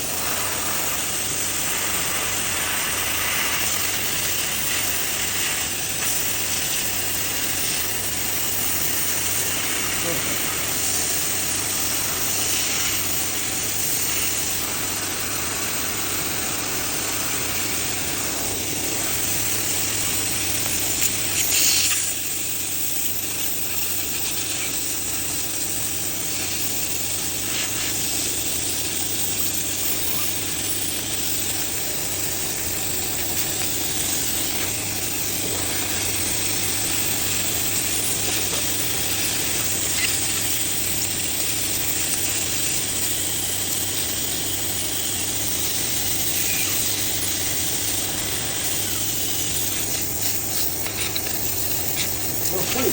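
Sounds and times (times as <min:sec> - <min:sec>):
laser cleaner hissing: 0:00.0 - 0:52.9.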